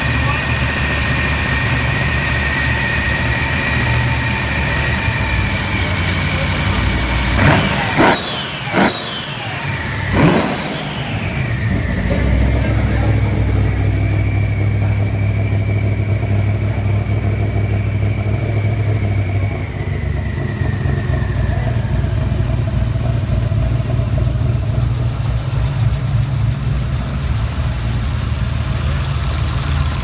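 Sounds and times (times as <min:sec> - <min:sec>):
car engine idling unevenly: 0:00.0 - 0:30.0.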